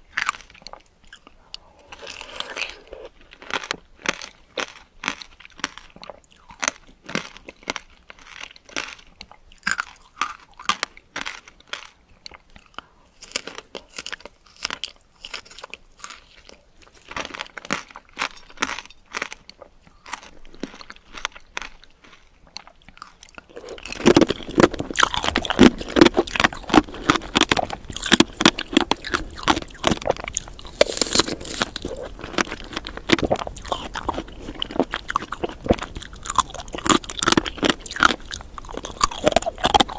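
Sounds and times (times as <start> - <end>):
chewing crunchy candied fruit: 0.0 - 39.9.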